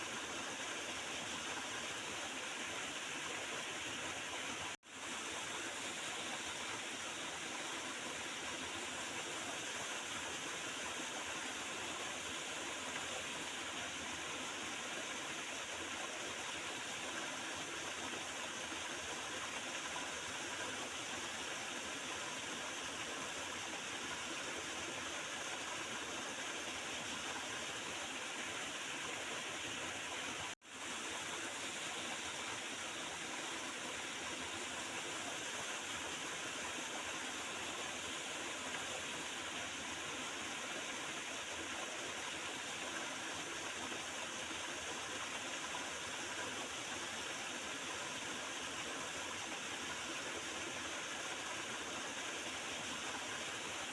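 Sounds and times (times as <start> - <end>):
river water flowing over stones: 0.0 - 53.9.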